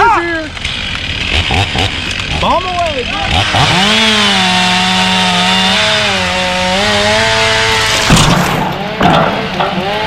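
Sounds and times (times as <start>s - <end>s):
chainsaw running at high revs: 0.6s - 10.0s.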